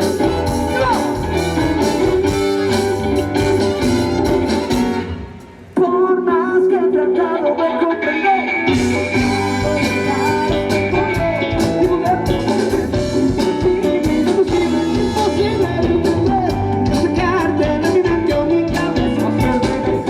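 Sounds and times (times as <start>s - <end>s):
rock band playing: 0.0s - 6.0s, 7.4s - 20.0s.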